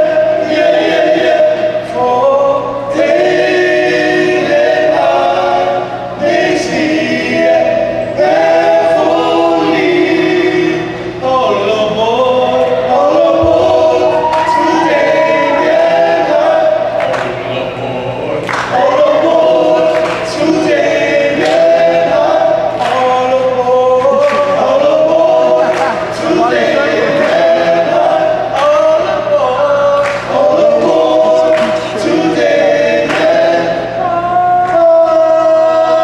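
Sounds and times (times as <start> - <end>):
men singing in close harmony: 0.0 - 36.0.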